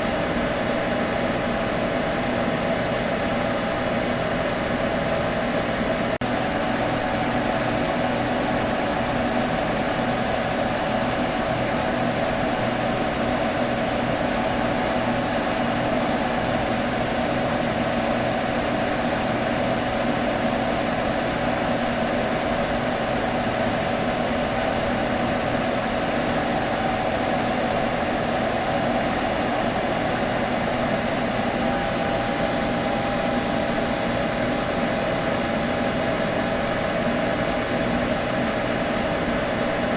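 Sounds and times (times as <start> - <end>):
computer fan humming: 0.0 - 39.9.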